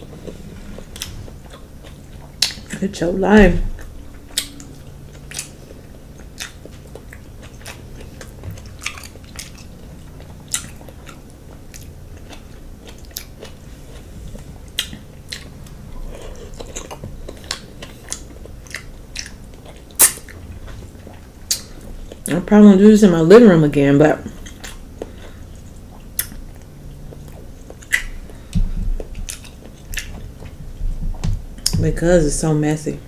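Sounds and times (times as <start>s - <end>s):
chewing and wet mouth smacking: 0.0s - 2.8s, 3.8s - 22.3s, 24.2s - 31.8s.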